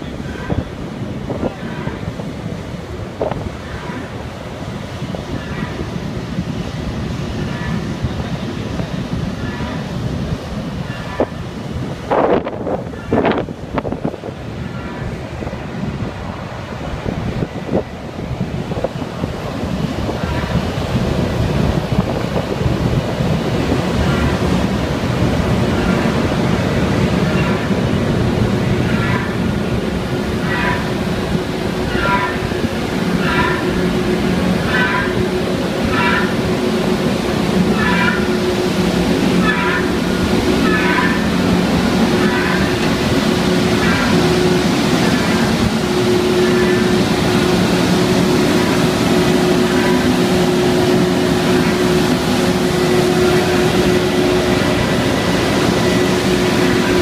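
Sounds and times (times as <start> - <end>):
drilling rig machinery rumble: 0.0 - 57.0
wind buffeting microphone: 0.0 - 57.0.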